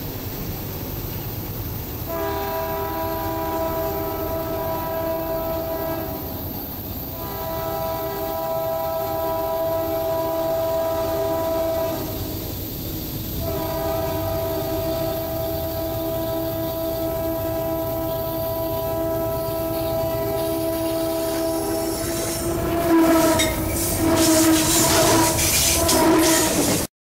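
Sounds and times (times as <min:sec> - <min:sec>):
train rumbling: 0:00.0 - 0:26.9
locomotive air horn blasts: 0:02.1 - 0:06.5, 0:07.1 - 0:12.3, 0:13.4 - 0:26.9.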